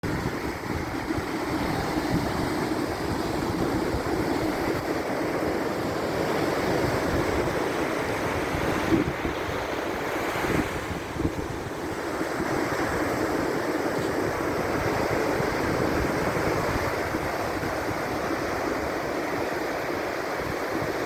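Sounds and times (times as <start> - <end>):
surf breaking on beach: 0.0 - 21.0
wind rumbling on microphone: 0.0 - 21.0.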